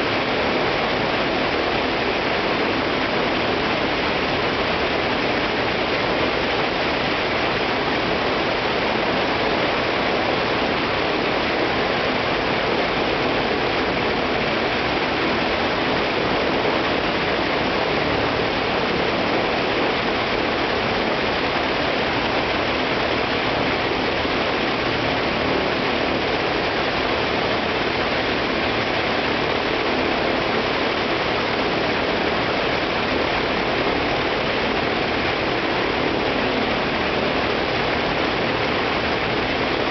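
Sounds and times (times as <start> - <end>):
propeller aircraft engine running: 0.0 - 39.9.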